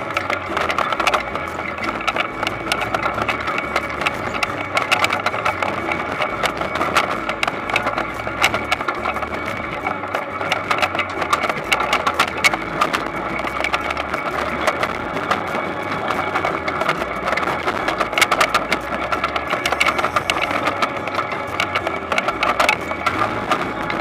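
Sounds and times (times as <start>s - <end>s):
harvesting machine humming: 0.0s - 24.0s
rattling and clicking: 0.0s - 24.0s.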